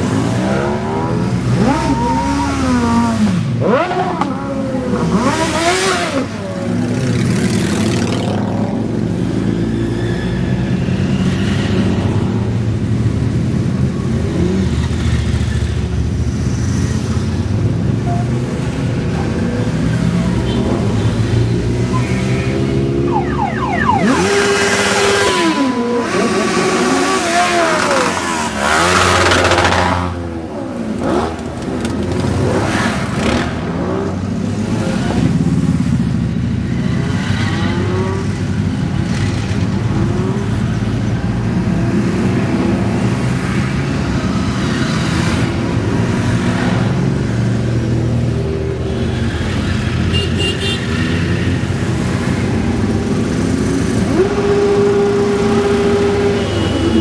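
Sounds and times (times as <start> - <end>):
motorcycles passing and revving: 0.0 - 57.0.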